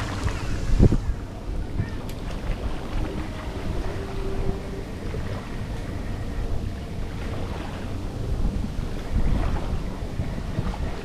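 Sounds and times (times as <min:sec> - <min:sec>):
choppy river waves: 0:00.0 - 0:11.0
gusty wind buffeting microphone: 0:00.0 - 0:11.0.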